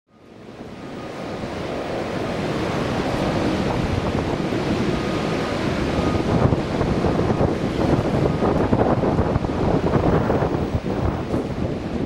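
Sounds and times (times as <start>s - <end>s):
jet engine roar: 0.1s - 12.0s
wind buffeting microphone: 0.2s - 12.0s.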